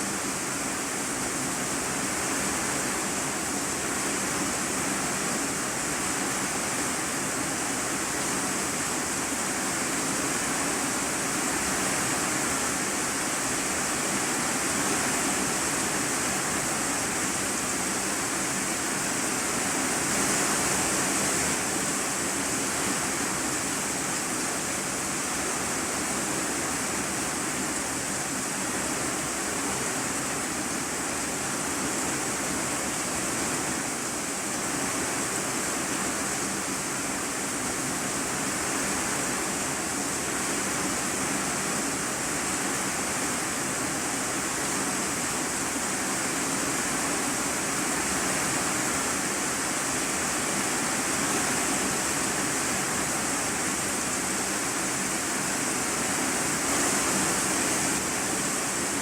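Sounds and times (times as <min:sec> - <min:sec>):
heavy rain on a metal roof: 0:00.0 - 0:59.0.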